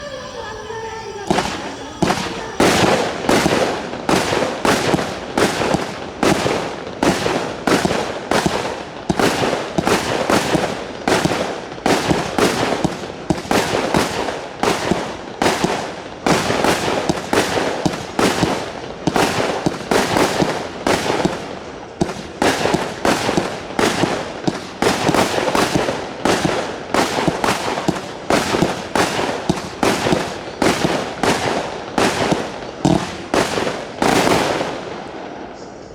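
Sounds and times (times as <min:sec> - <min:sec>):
fireworks battery firing: 0:00.0 - 0:35.7.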